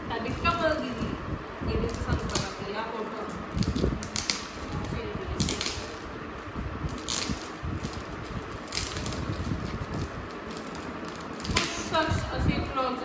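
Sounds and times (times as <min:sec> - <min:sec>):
foil gift wrap crinkling: 0:00.1 - 0:12.8.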